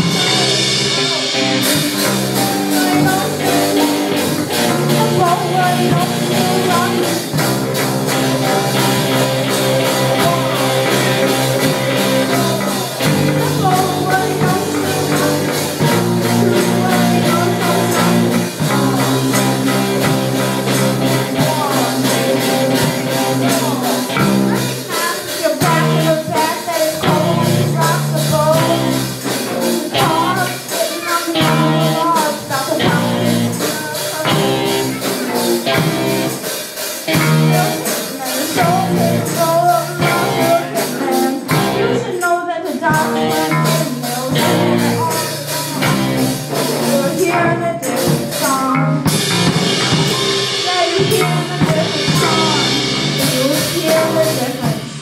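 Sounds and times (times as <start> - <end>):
boy singing: 0.0 - 55.0
cymbals ringing: 0.0 - 55.0
rock band playing: 0.0 - 55.0.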